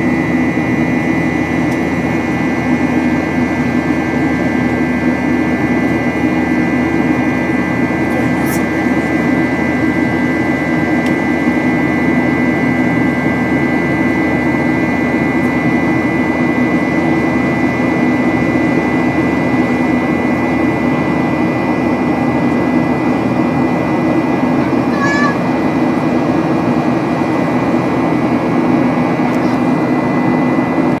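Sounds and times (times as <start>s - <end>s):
engine fans whining: 0.0s - 31.0s
jet engine and airflow roar: 0.0s - 31.0s.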